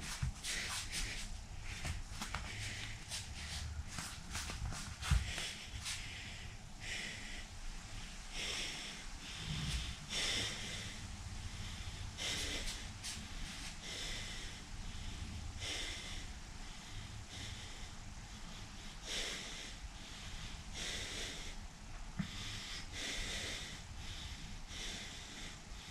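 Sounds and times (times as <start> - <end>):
man breathing hard: 0.0 - 25.9.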